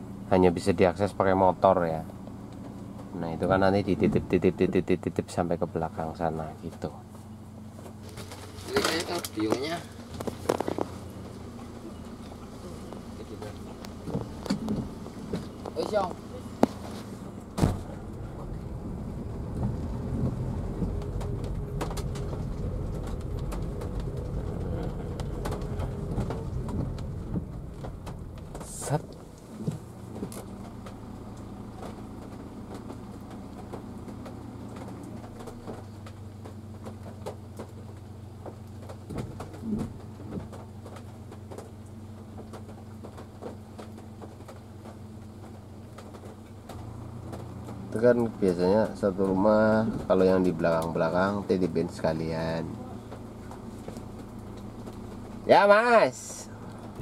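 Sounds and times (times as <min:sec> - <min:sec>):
car engine and tyres rumbling: 0:00.0 - 0:57.0
steady low hum: 0:00.0 - 0:57.0
rain pattering on car roof: 0:00.1 - 0:57.0.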